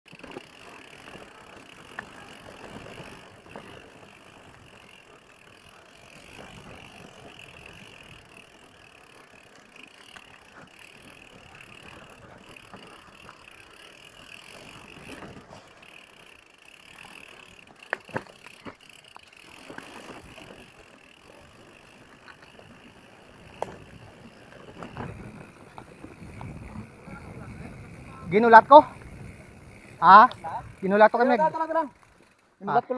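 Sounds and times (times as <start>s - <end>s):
bike hub ratchet ticking: 0.1s - 32.5s
bike chain rattling: 0.1s - 32.7s.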